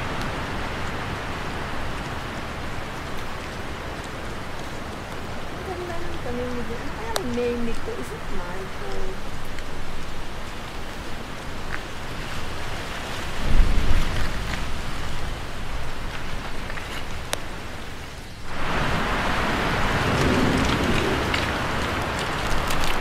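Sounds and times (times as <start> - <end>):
rain falling on foliage: 0.0 - 23.0.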